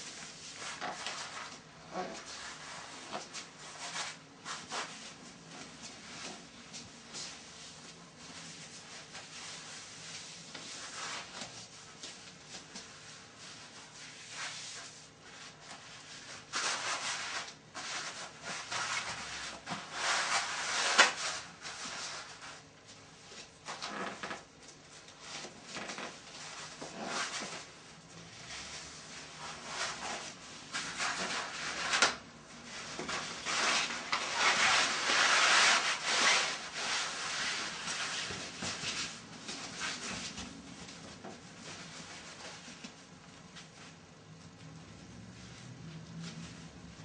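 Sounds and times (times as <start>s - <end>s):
fabric rubbing against skin: 0.0s - 44.2s.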